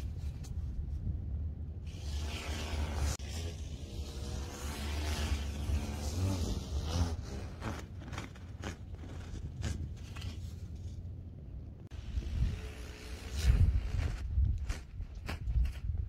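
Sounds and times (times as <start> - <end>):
kite sail rushing through air: 0.0 - 11.0, 11.9 - 16.0
wind rumbling on microphone: 0.0 - 16.0.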